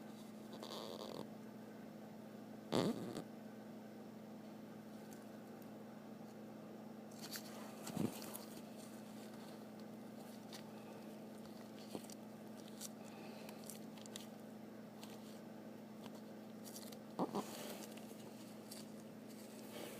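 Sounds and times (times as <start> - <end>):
steady electrical hum: 0.0 - 19.9.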